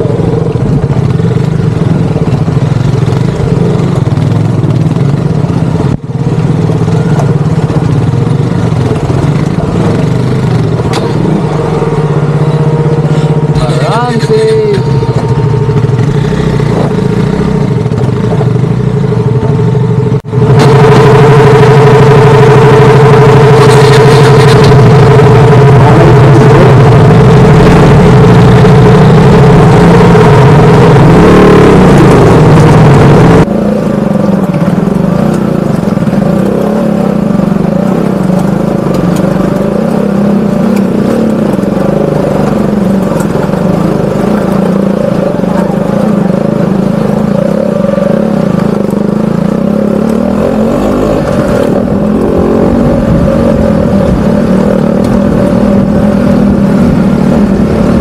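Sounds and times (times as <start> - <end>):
motorcycle engine on rocky trail: 0.0 - 58.0.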